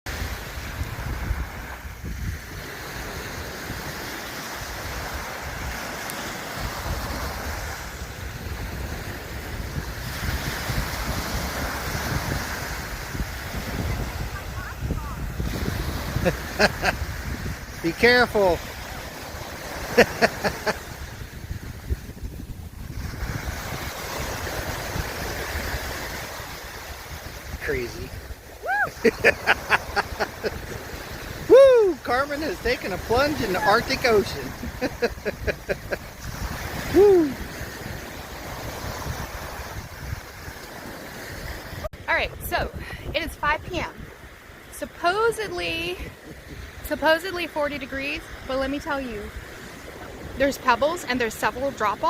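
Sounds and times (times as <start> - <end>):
ocean waves washing onto shore: 0.1 - 52.0
wind buffeting microphone: 0.1 - 52.0.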